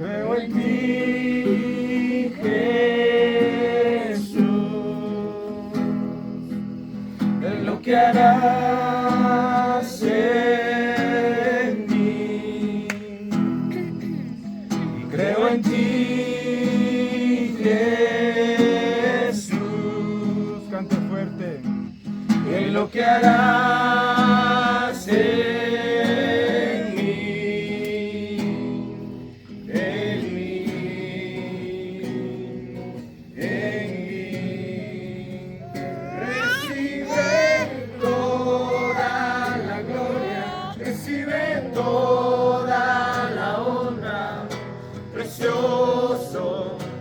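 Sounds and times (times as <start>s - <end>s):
group singing worship song: 0.0s - 21.1s, 21.9s - 47.0s.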